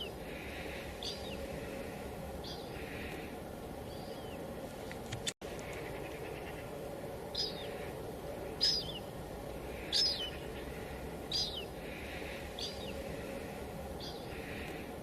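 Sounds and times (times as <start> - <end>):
light drizzle hiss: 0.0 - 15.0.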